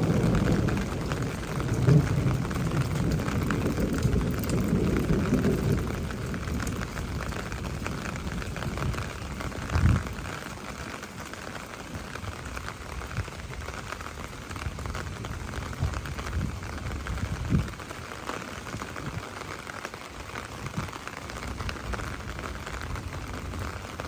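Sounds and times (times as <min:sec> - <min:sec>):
steady rain pattering: 0:00.0 - 0:24.0.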